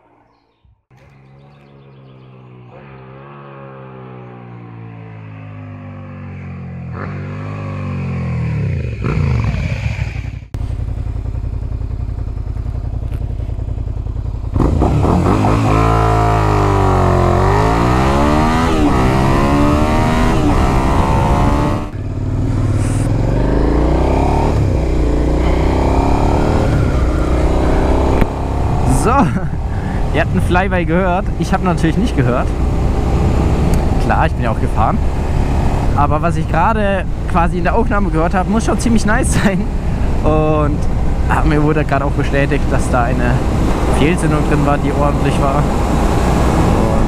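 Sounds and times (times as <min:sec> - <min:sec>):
motorcycle engine accelerating: 0:00.9 - 0:47.0.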